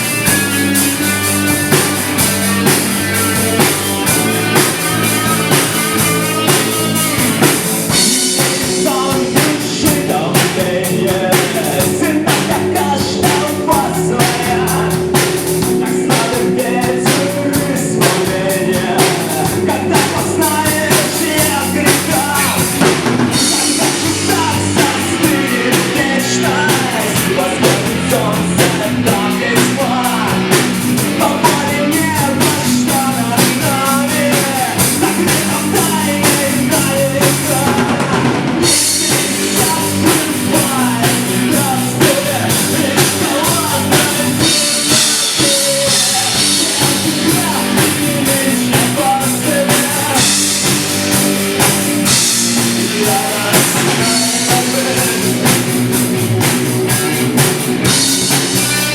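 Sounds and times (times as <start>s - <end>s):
bass guitar: 0.0s - 58.9s
drum kit beat: 0.0s - 58.9s
electric guitar: 0.0s - 58.9s.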